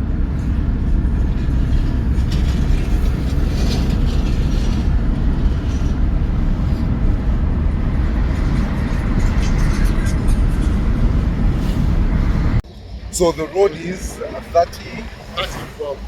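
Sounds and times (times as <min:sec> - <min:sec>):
car engine rumble: 0:00.0 - 0:16.0
tyres on road: 0:00.0 - 0:16.0.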